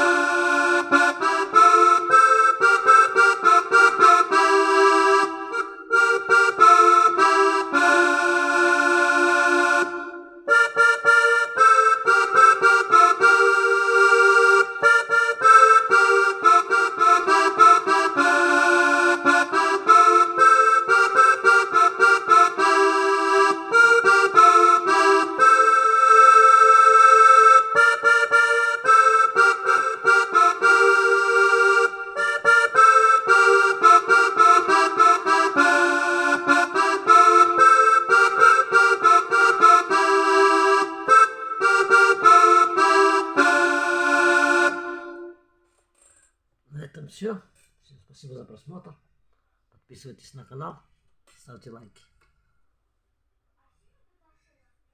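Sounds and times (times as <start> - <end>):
keyboard melody in accordion voice: 0.0 - 45.6.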